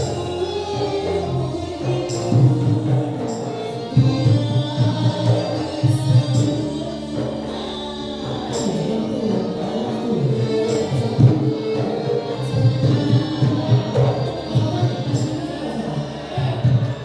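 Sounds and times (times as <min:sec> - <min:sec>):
person singing: 0:00.0 - 0:17.0
steady hand-drum beat: 0:00.0 - 0:17.0
violin guitar and drums ensemble: 0:00.0 - 0:17.0.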